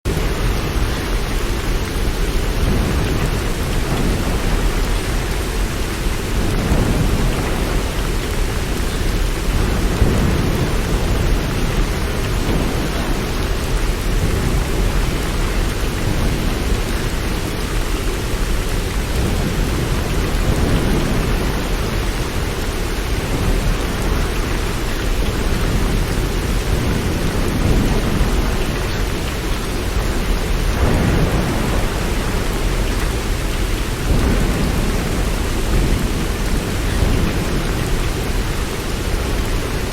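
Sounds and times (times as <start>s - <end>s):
steady rain: 0.0s - 39.9s
rolling thunder rumble: 0.1s - 39.9s.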